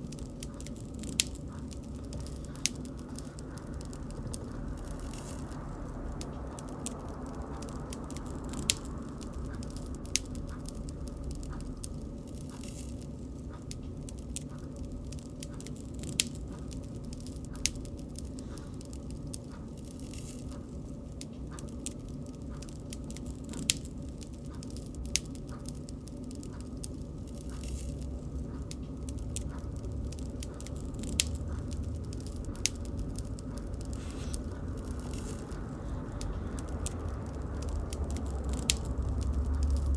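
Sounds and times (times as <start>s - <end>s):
bonfire crackling and popping: 0.0s - 39.9s
low rumble of burning: 0.0s - 39.9s.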